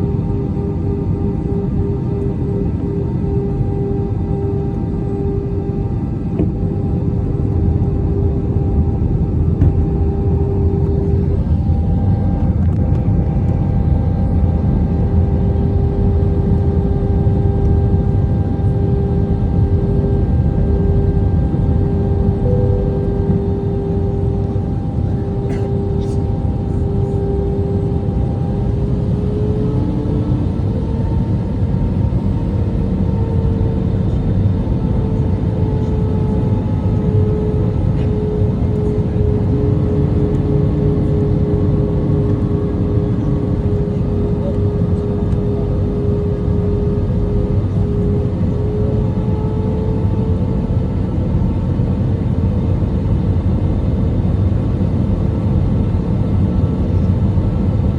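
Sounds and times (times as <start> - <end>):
airplane cabin engine rumble: 0.0 - 57.9.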